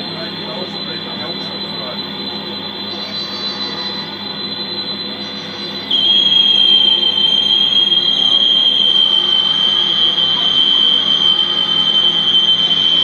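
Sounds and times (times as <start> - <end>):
shrill steady electronic tone: 0.0 - 13.0.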